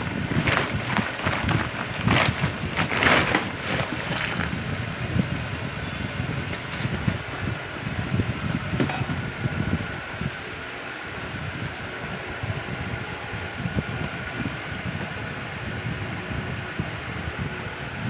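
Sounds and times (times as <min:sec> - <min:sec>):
ceiling fan running: 0:00.0 - 0:18.0
wind buffeting microphone: 0:00.0 - 0:18.0.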